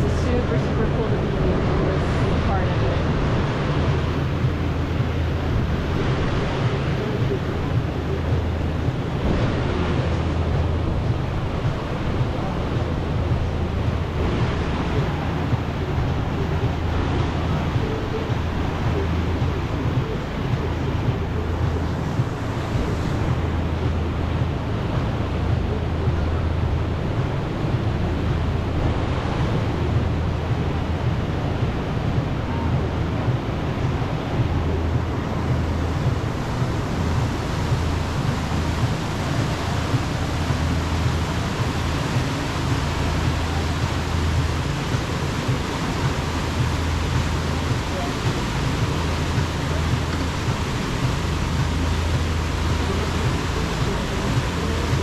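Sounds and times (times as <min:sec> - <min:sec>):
boat engine drone: 0:00.0 - 0:55.0
wind on microphone: 0:00.0 - 0:55.0.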